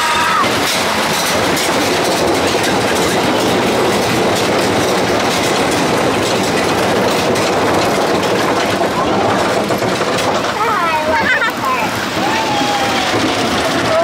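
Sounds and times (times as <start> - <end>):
roller coaster rattling on track: 0.0 - 14.0.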